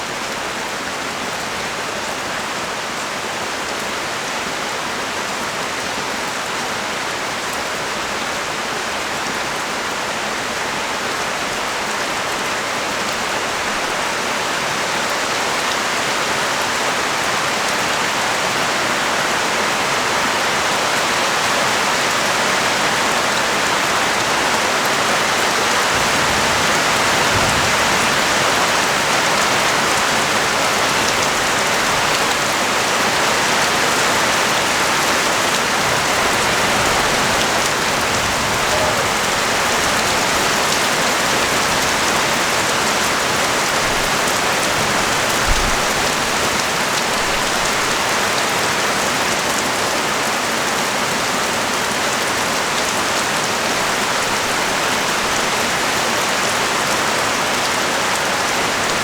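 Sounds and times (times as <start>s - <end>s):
heavy rain pouring on street: 0.0s - 59.0s.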